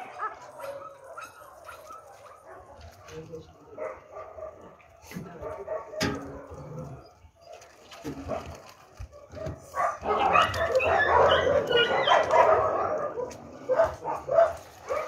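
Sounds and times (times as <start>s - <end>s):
dogs barking and yelping: 0.0s - 3.1s, 3.7s - 15.0s.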